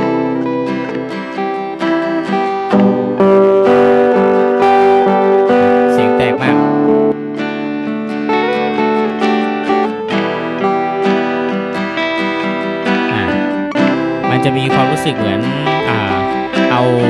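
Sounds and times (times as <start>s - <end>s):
picked acoustic guitar notes: 0.0s - 17.0s
strummed acoustic guitar chords: 0.0s - 17.0s.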